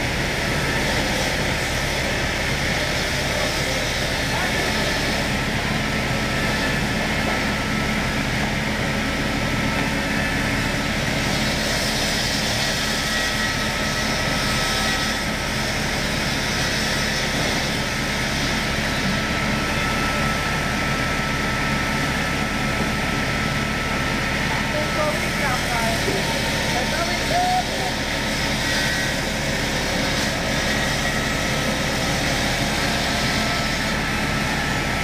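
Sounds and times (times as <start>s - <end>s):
woodworking machine running: 0.0s - 35.0s.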